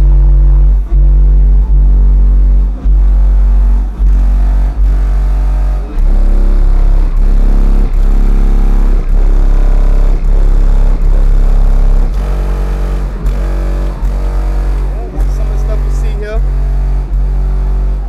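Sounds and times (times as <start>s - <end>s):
bass-heavy music from subwoofer: 0.0s - 18.0s.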